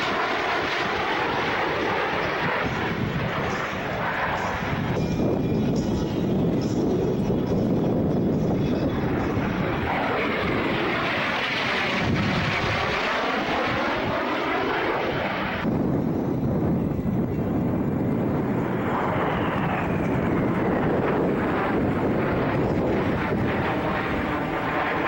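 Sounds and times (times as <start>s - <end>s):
airplane passing overhead: 0.0s - 25.0s.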